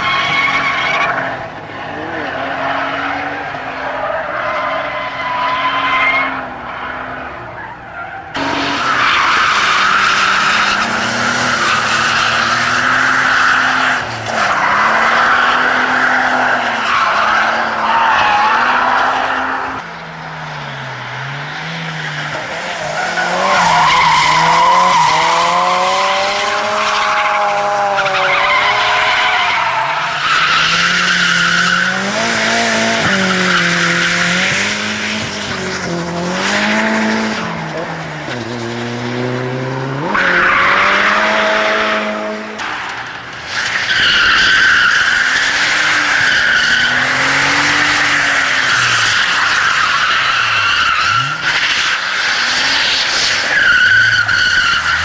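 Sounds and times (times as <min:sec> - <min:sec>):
tyres squealing on tarmac: 0:00.0 - 0:19.8, 0:21.9 - 0:34.6, 0:40.0 - 0:42.0, 0:42.6 - 0:55.0
car engines revving: 0:00.0 - 0:55.0.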